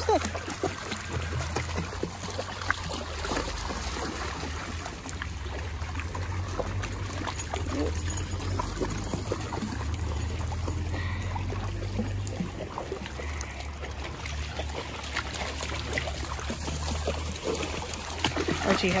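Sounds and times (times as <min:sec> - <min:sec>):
creek water trickling over stones: 0:00.0 - 0:19.0
dogs wading through water: 0:00.0 - 0:19.0
small splashes: 0:00.0 - 0:19.0.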